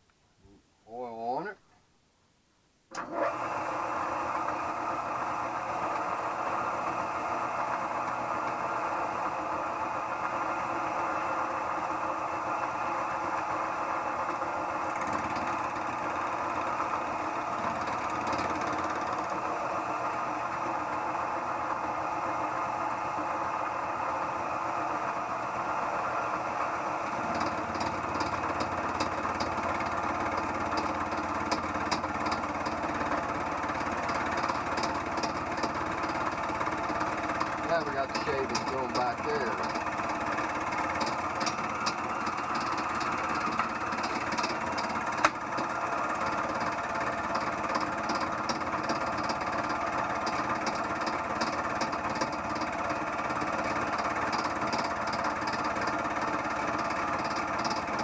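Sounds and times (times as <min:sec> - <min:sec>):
milling machine geared hum: 0:02.9 - 0:58.0.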